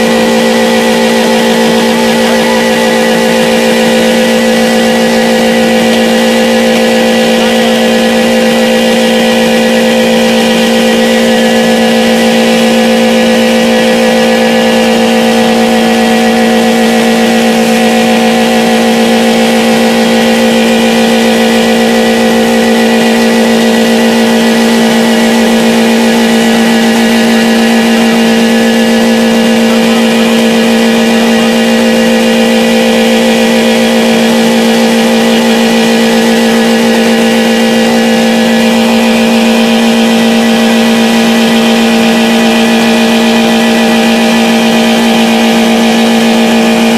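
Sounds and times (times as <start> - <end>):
car engine at high revs: 0.0 - 46.9.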